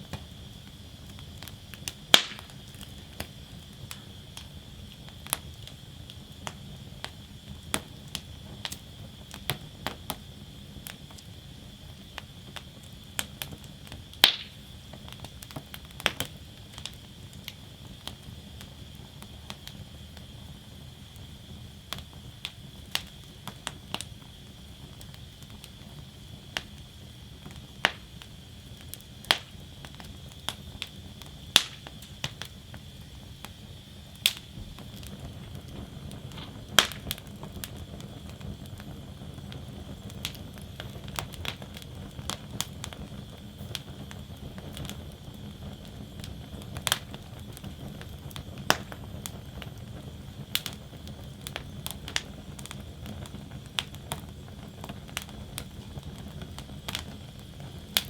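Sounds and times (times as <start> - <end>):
low rumble of flames: 0.0 - 58.0
wood fire popping and snapping: 0.0 - 58.0.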